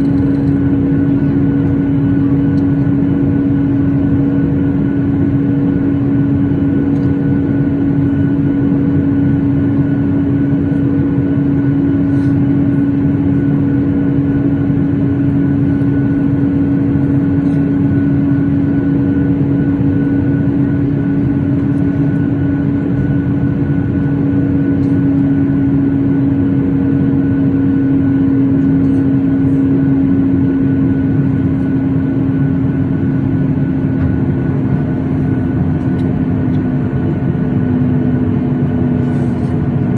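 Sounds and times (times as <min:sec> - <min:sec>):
airplane cabin rumble: 0:00.0 - 0:39.9
jet engine droning hum: 0:00.0 - 0:39.9.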